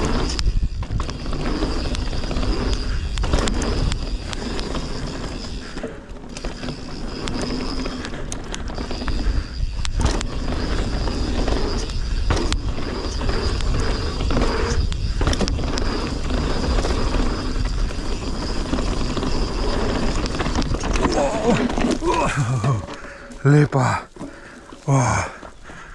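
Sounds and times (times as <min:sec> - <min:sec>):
bike knocks and rattles: 0:00.0 - 0:23.3.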